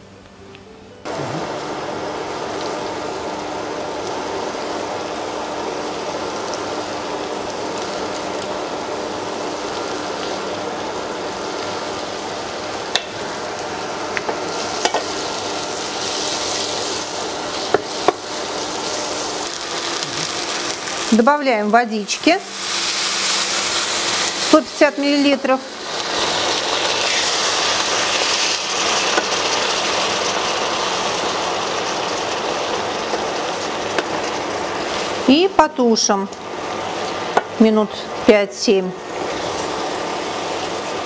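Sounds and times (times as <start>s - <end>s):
meat sizzling in frying pan: 1.1s - 41.0s.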